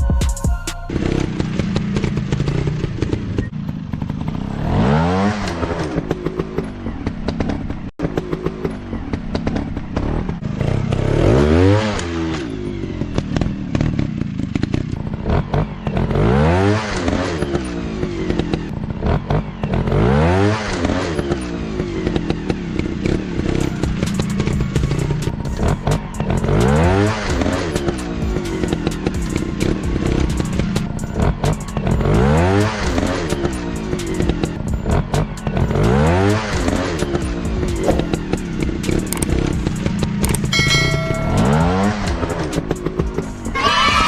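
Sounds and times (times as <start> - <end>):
dirt bikes revving: 0.9 - 44.0.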